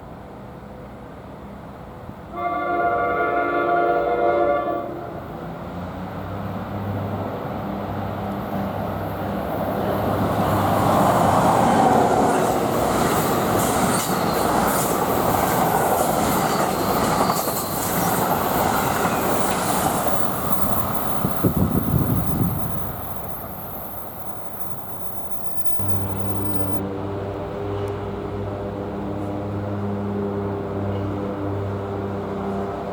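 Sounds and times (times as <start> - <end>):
train rumbling past: 0.0 - 32.9.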